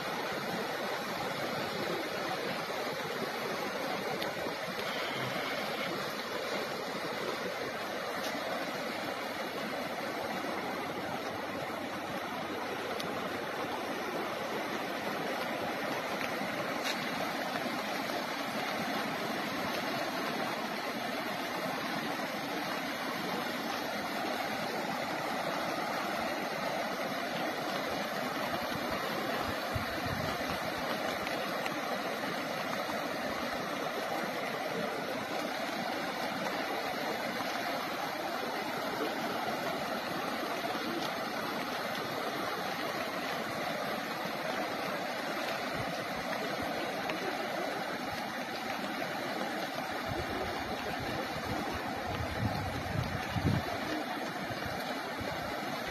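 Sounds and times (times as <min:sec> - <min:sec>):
floodwater rushing: 0:00.0 - 0:55.9.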